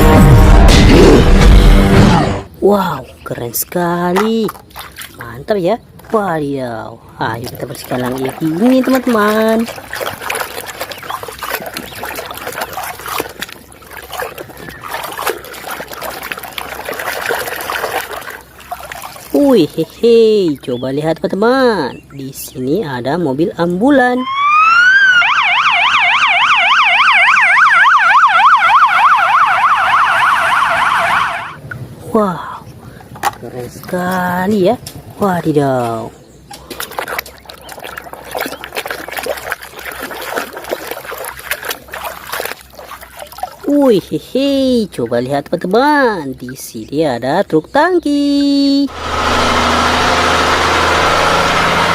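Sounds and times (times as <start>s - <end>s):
water splashing and trickling: 2.6s - 24.1s, 24.8s - 51.9s.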